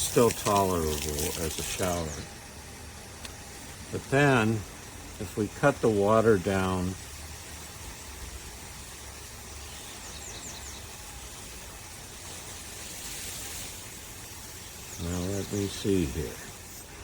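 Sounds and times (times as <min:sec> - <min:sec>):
water heater burner hissing: 0:00.0 - 0:17.0.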